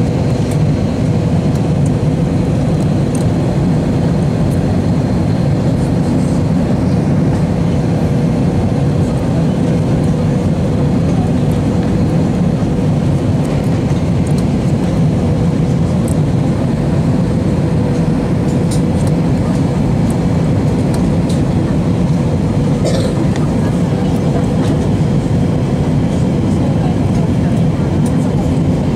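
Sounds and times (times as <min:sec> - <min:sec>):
aircraft cabin airflow and engines: 0:00.0 - 0:28.9.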